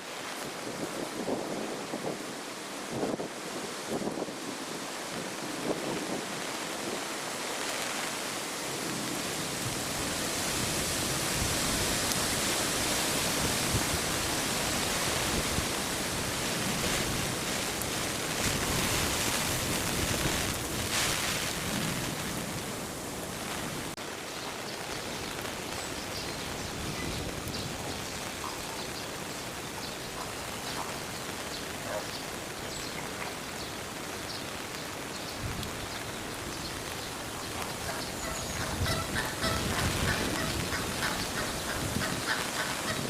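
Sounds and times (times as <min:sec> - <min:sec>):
falling water hiss: 0:00.0 - 0:43.0.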